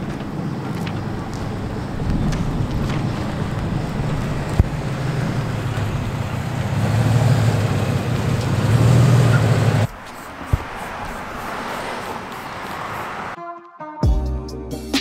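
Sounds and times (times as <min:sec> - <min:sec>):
truck engine running: 0:00.0 - 0:13.4.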